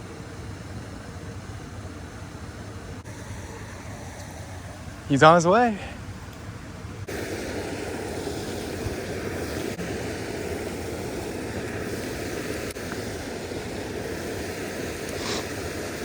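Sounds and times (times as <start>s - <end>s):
creek water rushing: 0.0s - 16.0s
higher hiss: 2.9s - 16.0s.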